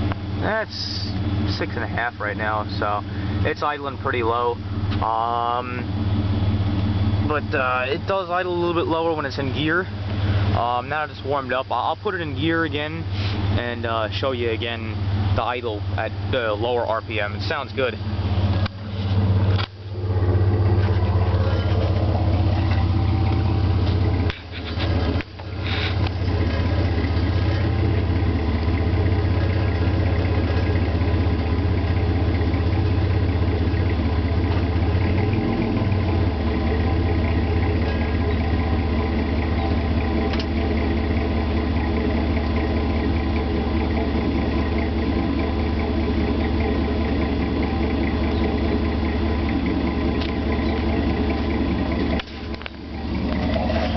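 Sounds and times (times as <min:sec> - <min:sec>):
car engine idling: 0:00.0 - 0:53.9.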